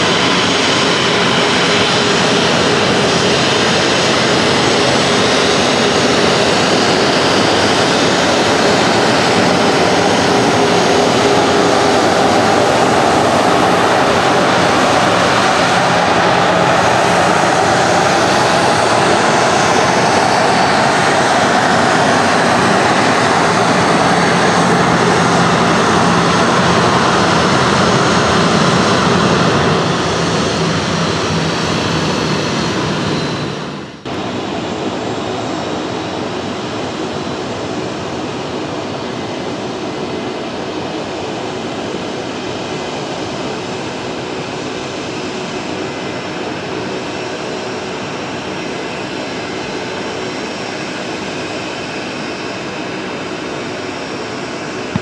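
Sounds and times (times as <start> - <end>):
distant jet engine hum: 0.0 - 55.0
jet engines at taxi power: 0.0 - 55.0.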